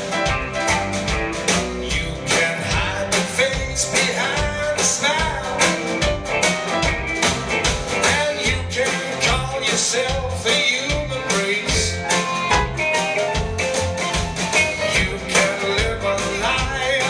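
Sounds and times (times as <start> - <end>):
drum kit backbeat: 0.0 - 17.0
live rock band playing: 0.0 - 17.0.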